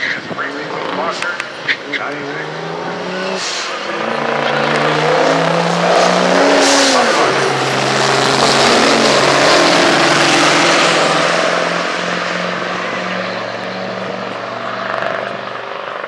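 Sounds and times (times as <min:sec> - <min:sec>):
pickup truck engines at full throttle: 0:00.0 - 0:16.0.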